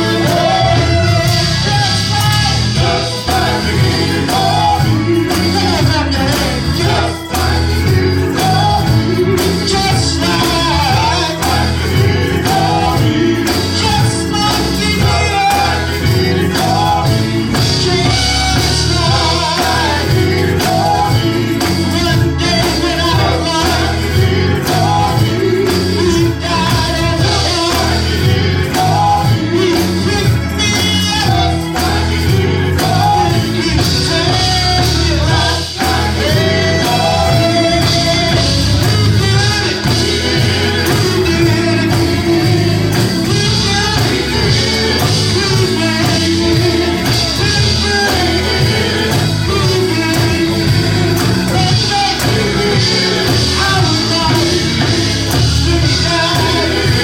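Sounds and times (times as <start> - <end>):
bass and drums beat: 0.0 - 57.0
gospel worship music: 0.0 - 57.0
singers: 0.0 - 57.0.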